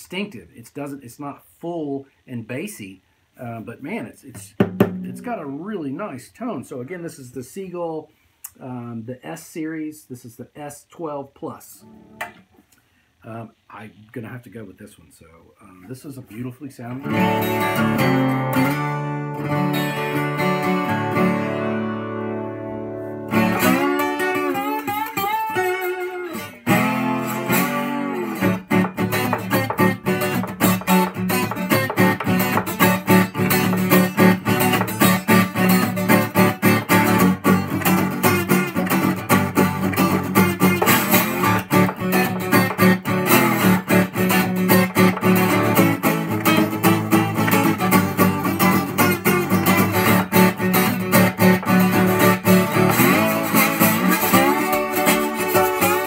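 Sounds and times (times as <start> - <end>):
slide acoustic guitar: 0.0 - 7.6, 15.7 - 56.0.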